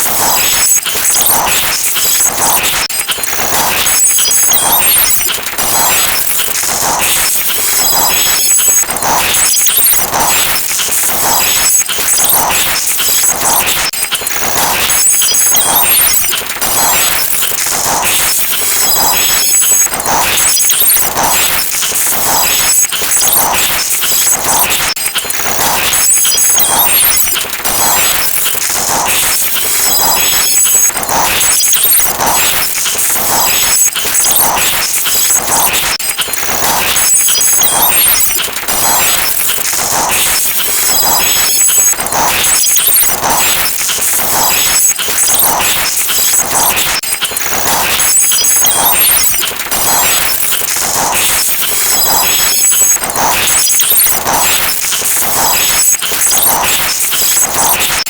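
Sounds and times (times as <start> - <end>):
jumble of sound effects: 0.0 - 58.0
repeating pulse: 0.0 - 58.0.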